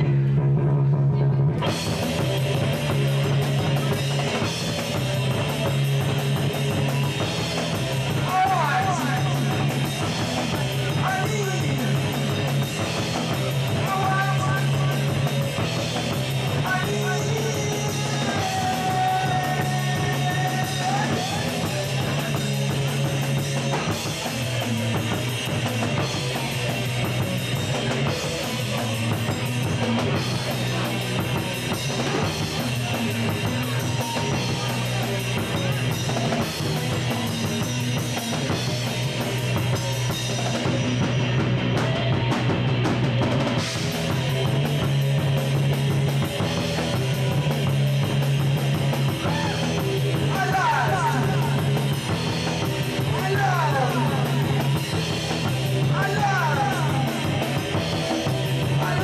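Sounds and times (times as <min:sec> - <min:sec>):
electric guitars: 0:00.0 - 0:59.0
pounding drum kit: 0:00.0 - 0:59.0.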